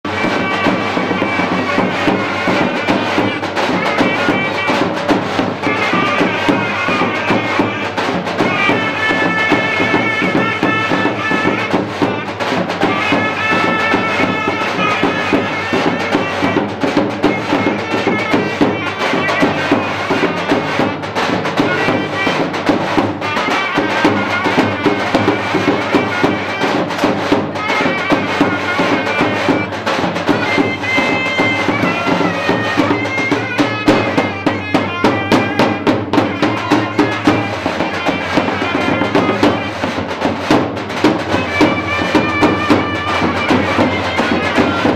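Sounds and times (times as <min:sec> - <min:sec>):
steady drum beats: 0:00.0 - 0:44.9
shrill reedy pipe melody: 0:00.1 - 0:44.9.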